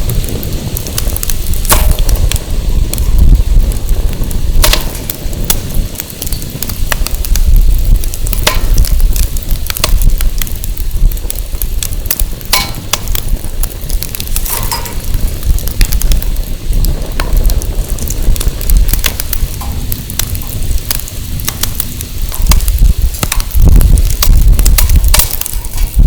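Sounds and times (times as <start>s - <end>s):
firewood crackling and popping: 0.0s - 26.0s
wind buffeting microphone: 0.0s - 26.0s.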